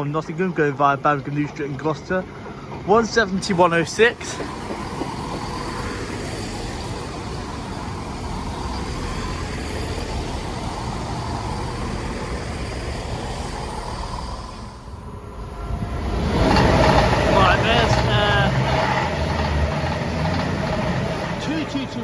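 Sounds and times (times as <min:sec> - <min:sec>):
diesel train running: 0:00.0 - 0:22.0.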